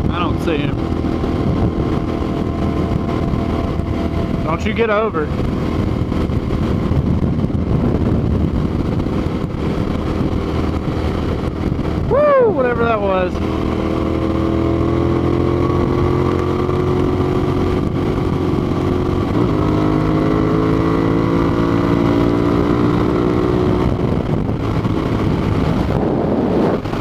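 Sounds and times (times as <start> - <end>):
motorcycle engine at speed: 0.0 - 27.0
wind rushing past helmet: 0.0 - 27.0.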